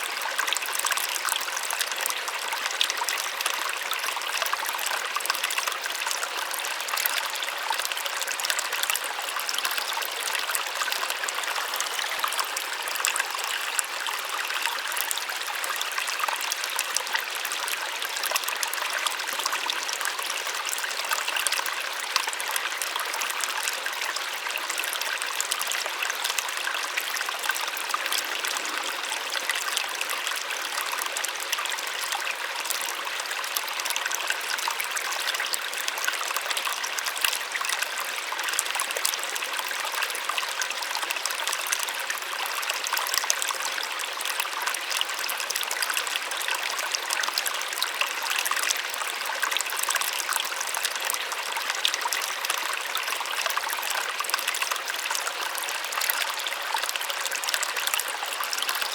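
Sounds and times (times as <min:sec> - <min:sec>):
small waterfall splashing: 0:00.0 - 0:58.9.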